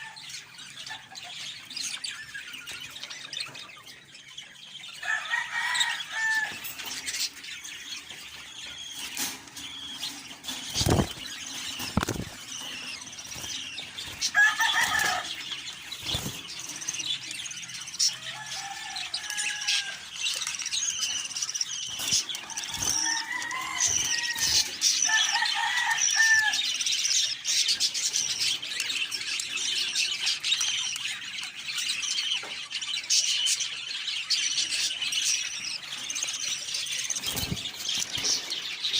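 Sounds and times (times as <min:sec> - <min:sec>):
budgerigars chattering: 0:00.0 - 0:33.7.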